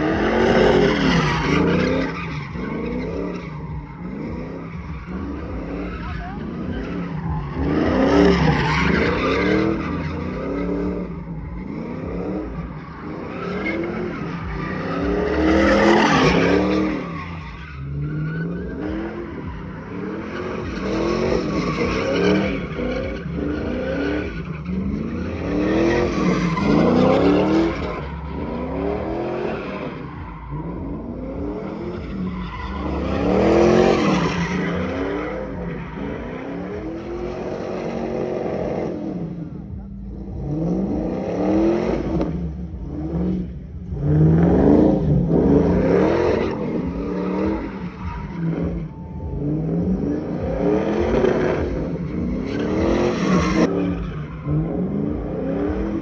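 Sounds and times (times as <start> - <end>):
truck engine revving: 0.0 - 56.0
tyres spinning and squealing: 0.0 - 56.0.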